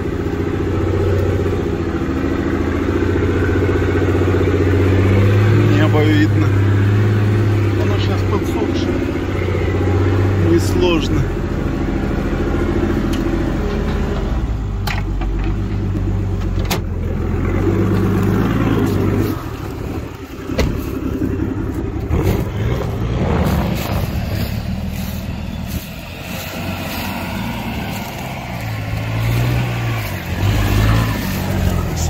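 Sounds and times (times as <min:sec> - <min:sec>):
off-road vehicle engine under load: 0:00.0 - 0:32.0.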